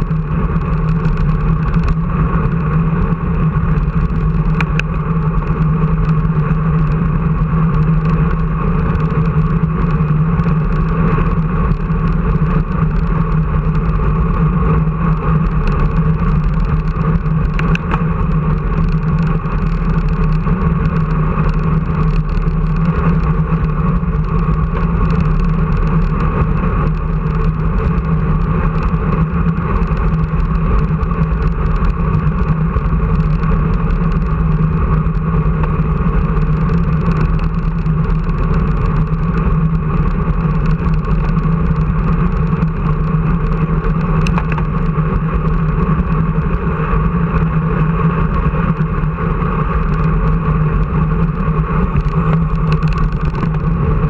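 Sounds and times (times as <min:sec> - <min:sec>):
steady engine drone: 0:00.0 - 0:54.0.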